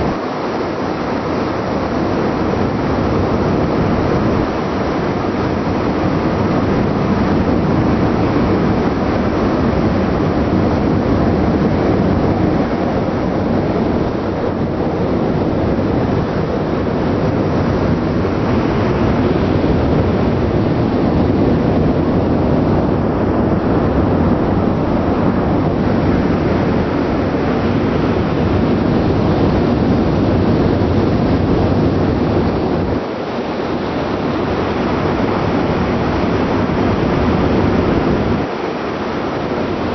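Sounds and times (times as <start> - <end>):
ship engine and exhaust: 0.0 - 39.9
wind on microphone: 0.0 - 39.9.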